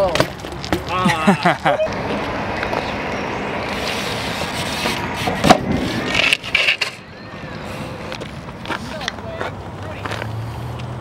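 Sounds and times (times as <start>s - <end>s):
bike rolling over rough asphalt: 0.0s - 11.0s.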